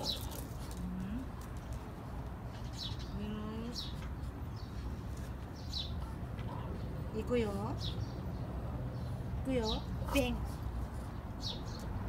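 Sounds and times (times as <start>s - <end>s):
small birds chirping: 0.0s - 1.8s, 2.4s - 12.0s.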